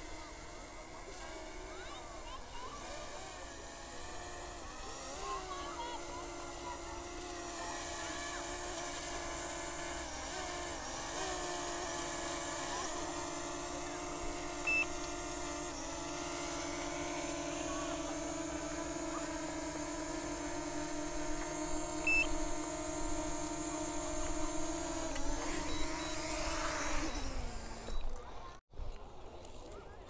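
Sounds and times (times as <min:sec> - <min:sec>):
drone propellers buzzing: 0:00.0 - 0:28.6.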